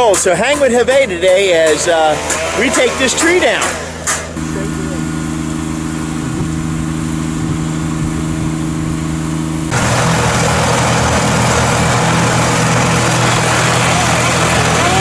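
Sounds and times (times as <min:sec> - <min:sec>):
heavy engine idling: 0:00.0 - 0:15.0
loud hissing machine noise: 0:00.9 - 0:15.0.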